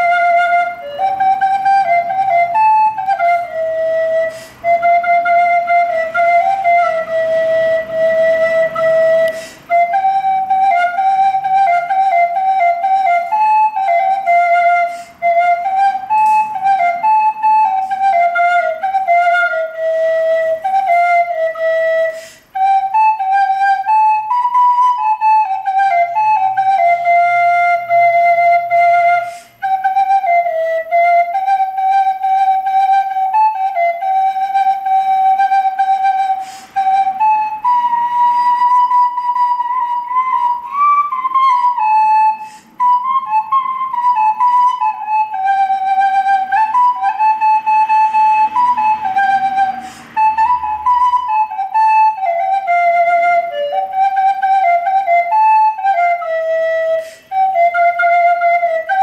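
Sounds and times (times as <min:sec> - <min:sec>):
recorder melody: 0:00.0 - 0:59.0.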